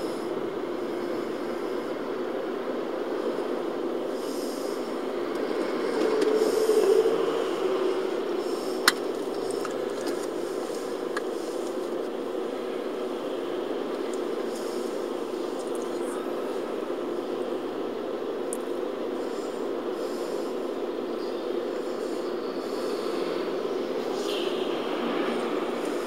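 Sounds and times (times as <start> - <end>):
traffic drone from inside car: 0.0 - 26.0.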